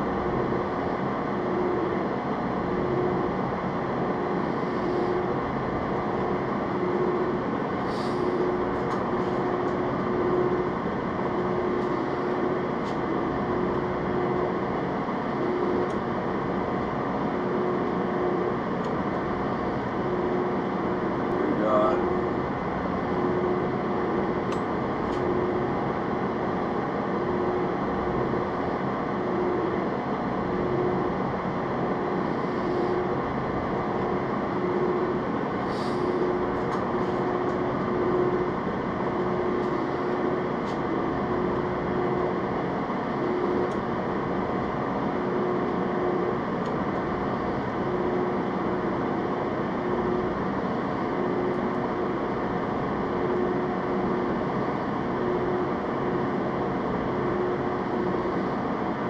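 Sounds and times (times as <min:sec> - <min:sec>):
machine tool humming: 0:00.0 - 0:59.0.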